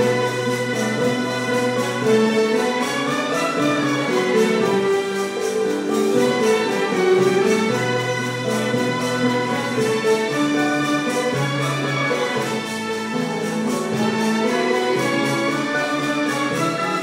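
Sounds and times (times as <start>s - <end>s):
symphony orchestra playing: 0.0s - 17.0s.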